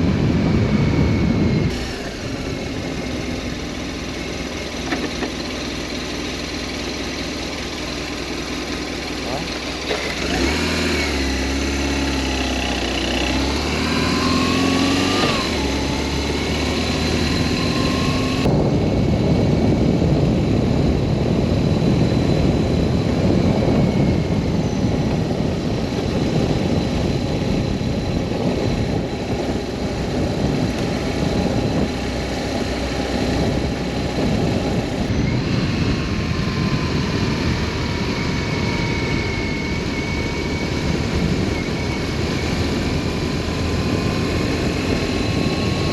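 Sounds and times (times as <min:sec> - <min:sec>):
motorcycle engine running: 0:00.0 - 0:45.9
wind and road rush: 0:00.0 - 0:45.9.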